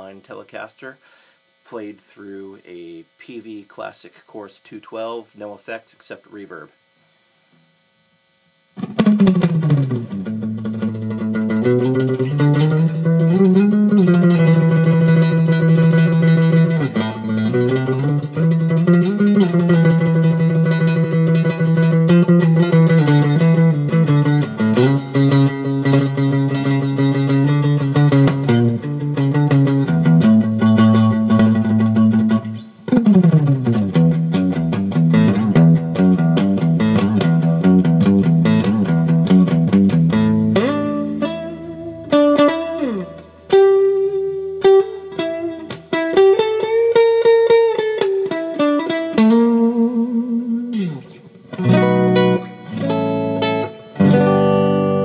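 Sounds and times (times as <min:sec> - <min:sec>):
electric guitar with reverb: 0:08.4 - 0:55.0.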